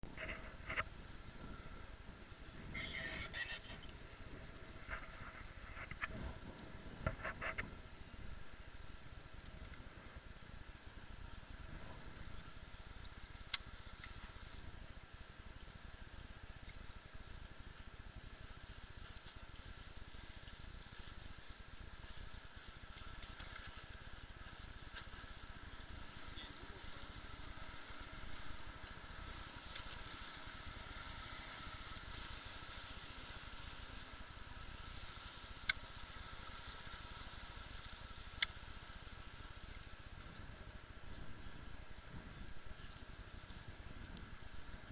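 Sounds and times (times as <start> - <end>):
water: 0.1 - 44.9
wind hiss: 0.1 - 44.9.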